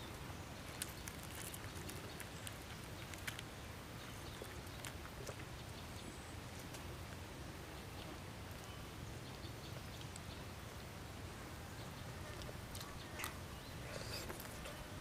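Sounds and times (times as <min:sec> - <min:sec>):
low background hiss: 0:00.0 - 0:15.0.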